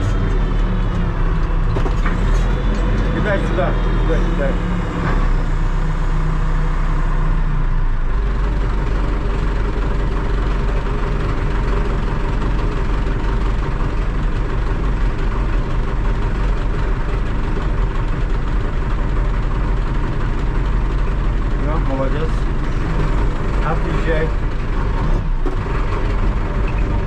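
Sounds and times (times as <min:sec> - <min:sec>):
backhoe diesel engine running: 0:00.0 - 0:27.0.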